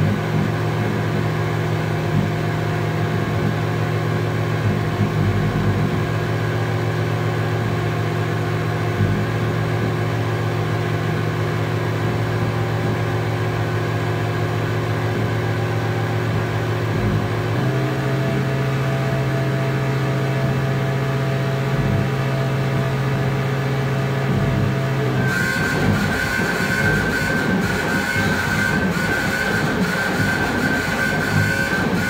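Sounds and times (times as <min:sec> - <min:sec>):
buzzing electronic drone: 0:00.0 - 0:32.0.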